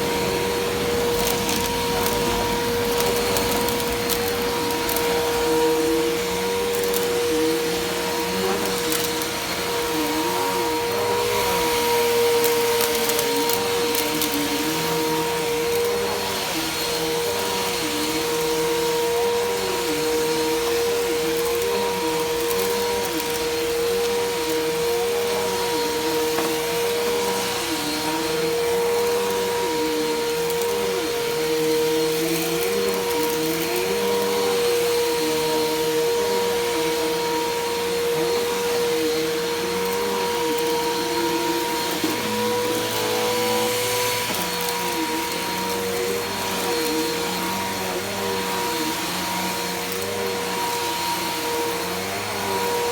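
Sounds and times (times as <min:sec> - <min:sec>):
vacuum cleaner motor whine: 0:00.0 - 0:52.9.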